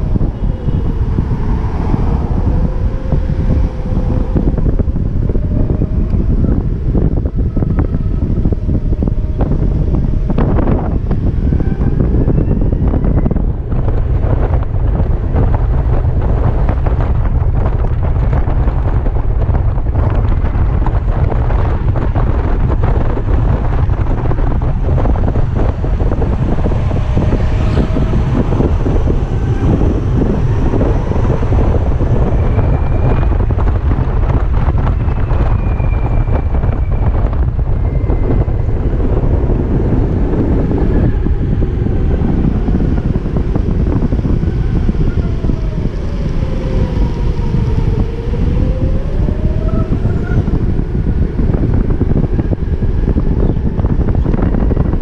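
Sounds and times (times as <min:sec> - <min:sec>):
road and traffic noise: 0:00.0 - 0:55.0
wind buffeting microphone: 0:00.0 - 0:55.0.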